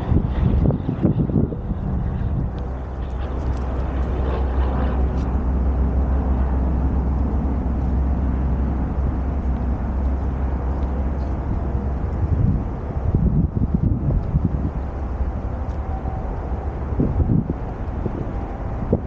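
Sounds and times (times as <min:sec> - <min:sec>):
wind blowing over microphone: 0:00.0 - 0:19.0.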